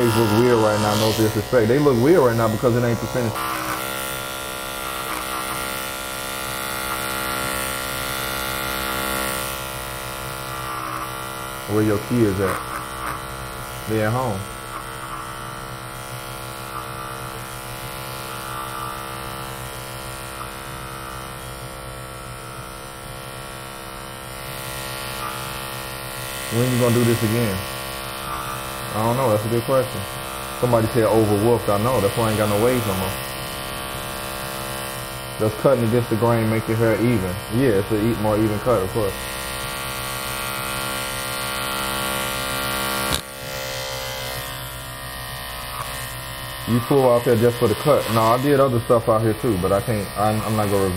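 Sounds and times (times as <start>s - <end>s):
electric hair clippers humming: 0.0s - 50.9s.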